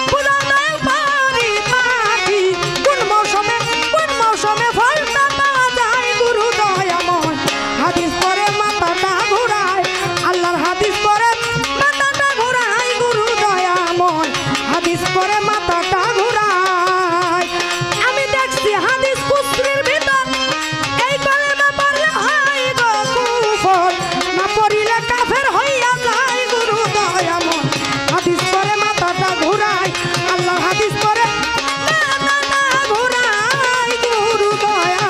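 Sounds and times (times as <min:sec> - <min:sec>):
hand drum percussion: 0:00.0 - 0:35.0
melodic instrumental accompaniment: 0:00.0 - 0:35.0
woman singing: 0:00.0 - 0:35.0.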